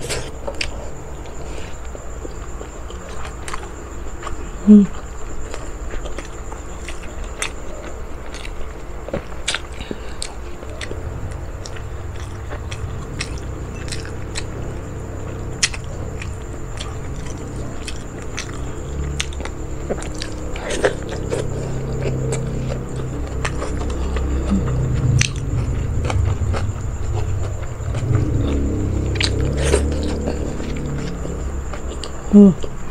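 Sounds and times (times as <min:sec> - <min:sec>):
person chewing food: 0:05.4 - 0:32.9.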